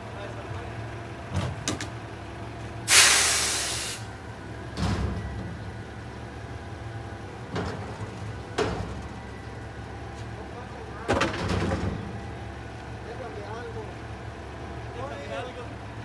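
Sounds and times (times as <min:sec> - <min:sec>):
garbage truck idling: 0:00.0 - 0:16.0.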